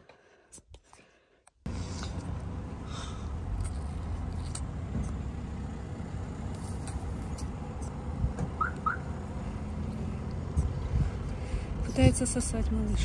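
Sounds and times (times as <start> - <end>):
steady low rumble: 1.6 - 13.0.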